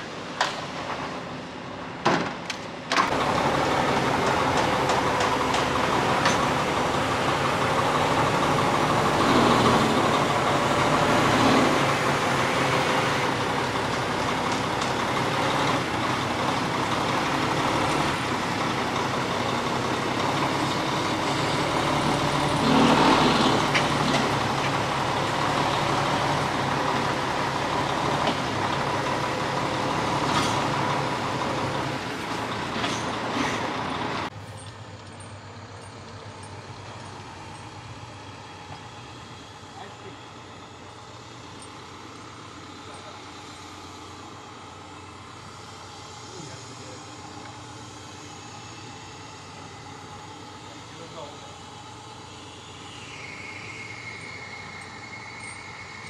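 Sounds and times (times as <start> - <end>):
diesel truck engine idling: 2.8 - 56.0.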